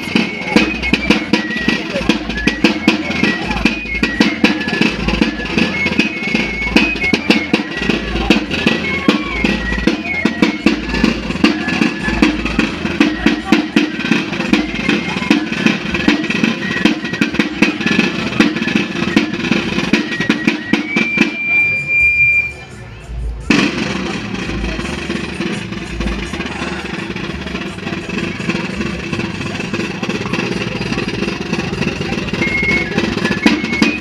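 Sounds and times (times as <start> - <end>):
rapid continuous drumming: 0.0 - 34.0.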